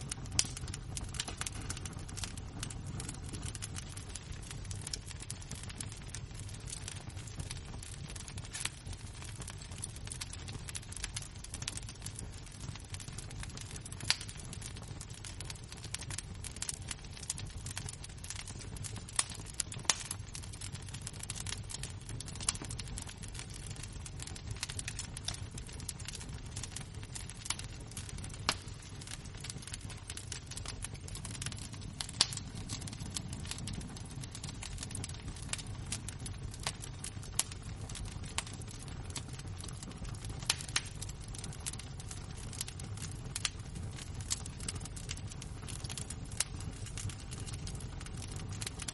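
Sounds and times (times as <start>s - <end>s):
wood crackling and popping: 0.0s - 48.9s.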